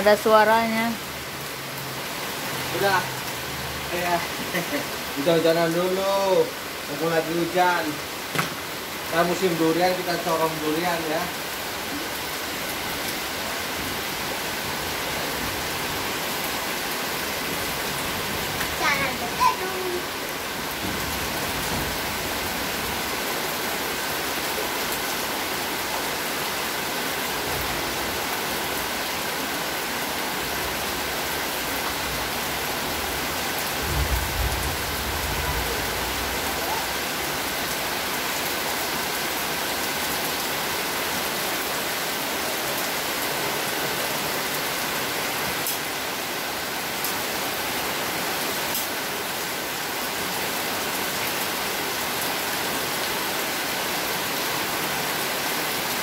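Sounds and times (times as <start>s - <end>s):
heavy rain on paving: 0.0s - 56.0s.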